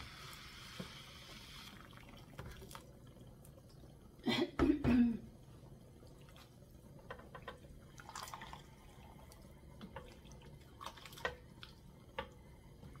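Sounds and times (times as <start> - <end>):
faint wet sloshing: 1.6 - 13.0.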